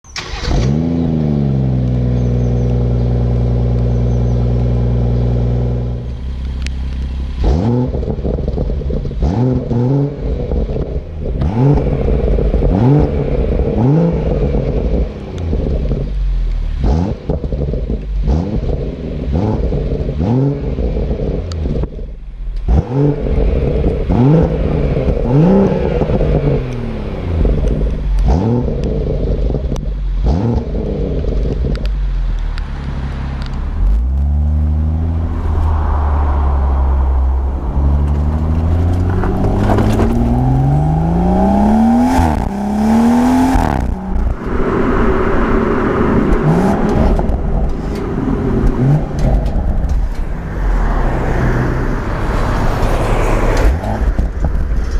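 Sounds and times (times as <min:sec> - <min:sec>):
exhaust crackles: 0:00.1 - 0:54.9
car engine revving: 0:00.2 - 0:54.9.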